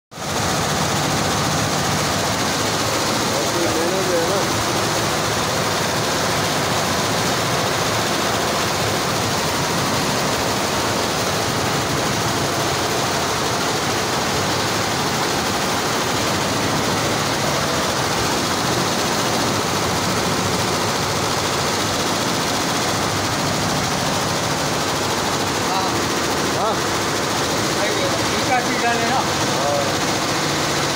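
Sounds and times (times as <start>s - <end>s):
embroidery machines running: 0.2s - 30.9s.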